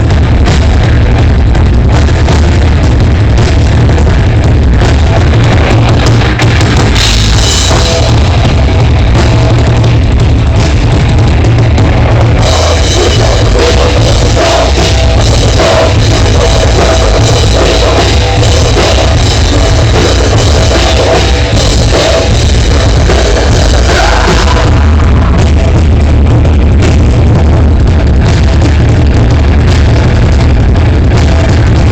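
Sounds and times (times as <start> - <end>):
drum kit: 0.0 - 31.9
heavy bass: 0.0 - 31.9
live rock band: 0.0 - 31.9.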